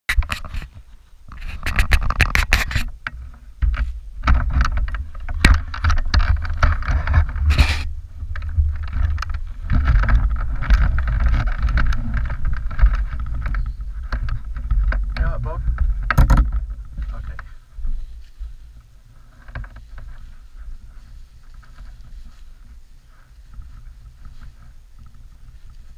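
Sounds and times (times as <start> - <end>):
clothing rubbing on microphone: 0.1 - 25.9
steady low rumble: 2.9 - 25.9.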